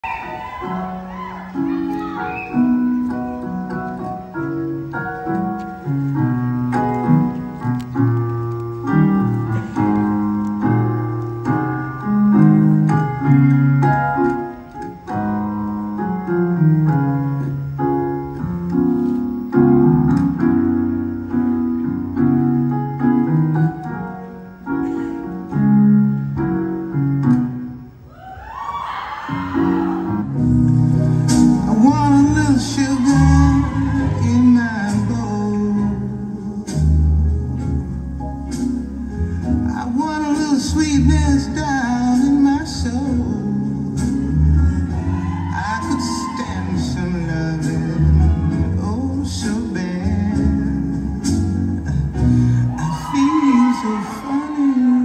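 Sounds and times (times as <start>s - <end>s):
piano music over loudspeakers: 0.0s - 55.0s.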